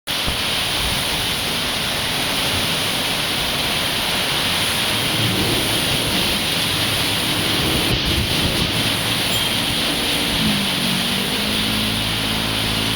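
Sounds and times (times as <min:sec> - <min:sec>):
heavy rain pouring: 0:00.1 - 0:12.9.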